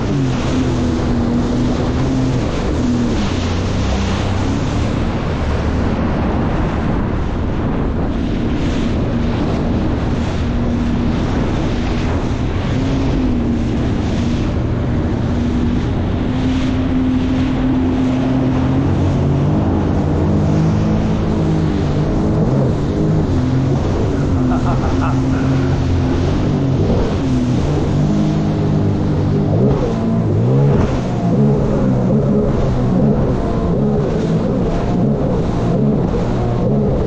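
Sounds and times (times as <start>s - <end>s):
motorboat engines running: 0.0s - 37.0s
second boat engine wavering: 0.0s - 37.0s
water rushing: 0.0s - 37.0s
wind buffeting microphone: 0.0s - 37.0s.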